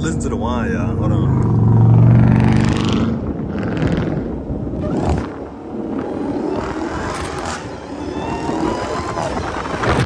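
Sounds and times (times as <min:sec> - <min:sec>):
engine and exhaust rumble: 0:00.0 - 0:10.0
supercharger whine: 0:00.0 - 0:10.0.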